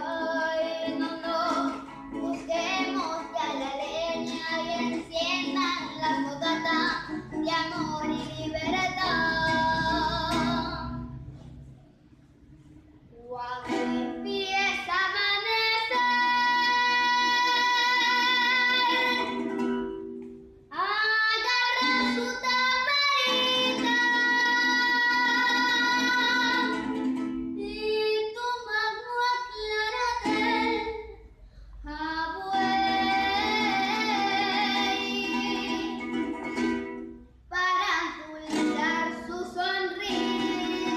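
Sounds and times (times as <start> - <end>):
woman singing with vibrato: 0.0 - 11.2, 13.1 - 19.5, 20.7 - 26.9, 27.6 - 31.1, 31.8 - 36.8, 37.5 - 40.9
plucked string accompaniment: 0.0 - 28.1, 29.6 - 40.9.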